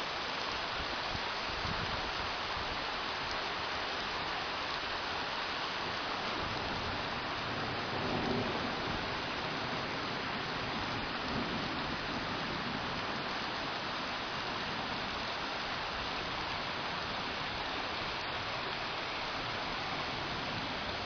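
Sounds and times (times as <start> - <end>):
steady rain splashing: 0.0 - 21.0.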